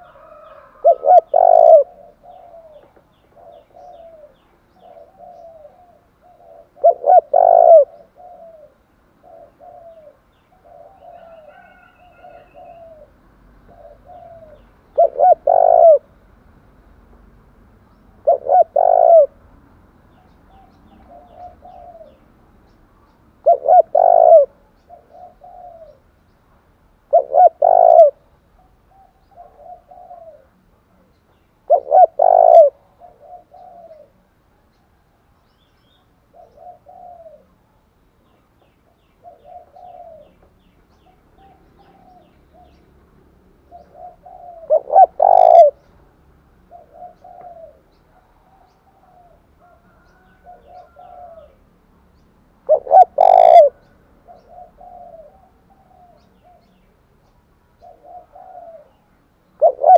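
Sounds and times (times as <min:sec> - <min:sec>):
dove cooing: 0:00.0 - 0:16.2, 0:18.2 - 0:19.4, 0:20.1 - 0:22.3, 0:23.4 - 0:26.1, 0:27.1 - 0:30.7, 0:31.7 - 0:35.0, 0:35.9 - 0:37.8, 0:38.9 - 0:42.9, 0:43.6 - 0:45.9, 0:46.6 - 0:51.7, 0:52.6 - 0:56.9, 0:57.8 - 0:59.9.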